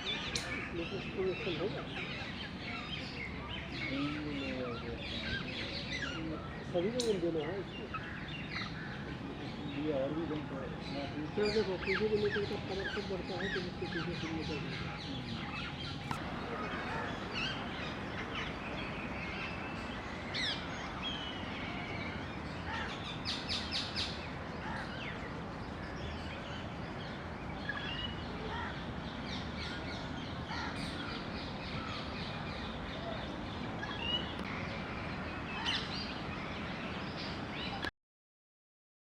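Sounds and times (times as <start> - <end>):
steady background hiss: 0.0 - 37.8.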